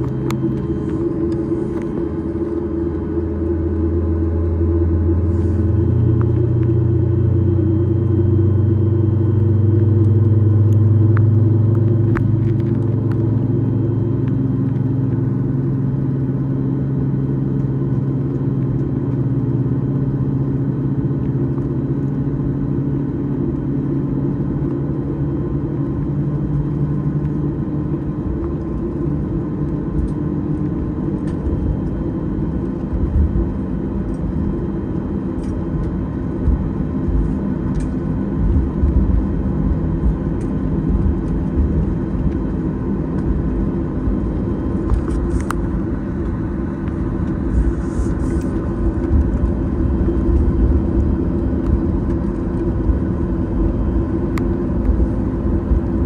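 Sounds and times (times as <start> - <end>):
jet engines in cabin: 0.0 - 56.0
strong low hum: 0.0 - 56.0.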